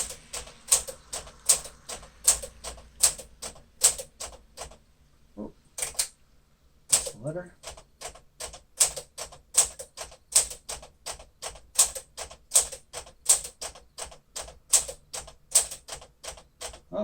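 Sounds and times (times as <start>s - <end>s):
manual typewriter typing: 0.0s - 4.8s, 5.8s - 6.1s, 6.9s - 16.9s.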